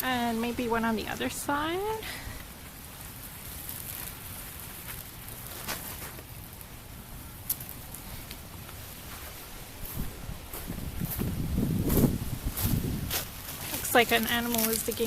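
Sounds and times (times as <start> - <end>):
freezing rain pattering: 0.0 - 15.0.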